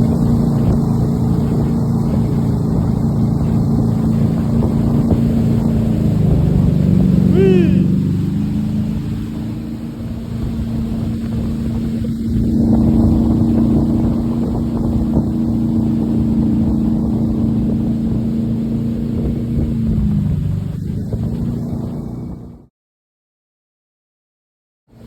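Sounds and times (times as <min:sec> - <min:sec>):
water noise: 0:00.0 - 0:22.6
motorboat engine: 0:00.0 - 0:22.7
wind: 0:00.0 - 0:22.7.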